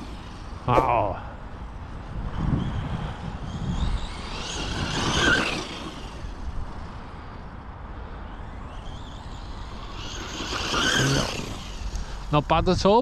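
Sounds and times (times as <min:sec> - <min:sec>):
rc truck motor whining: 0:00.0 - 0:00.7, 0:01.4 - 0:13.0.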